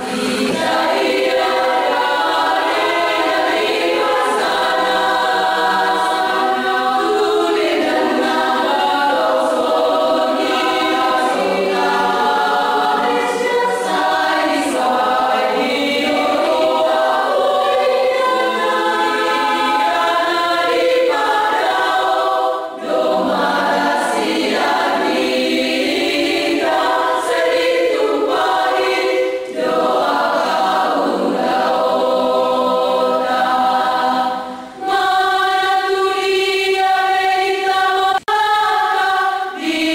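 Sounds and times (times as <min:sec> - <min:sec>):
women's choir singing a cappella: 0:00.0 - 0:39.9.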